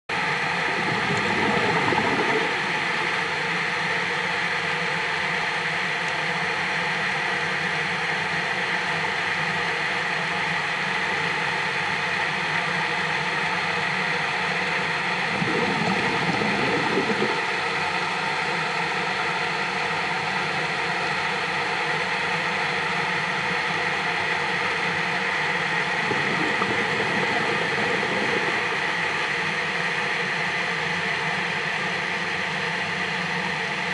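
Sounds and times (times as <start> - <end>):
steady mechanical hum: 0.1 - 33.9.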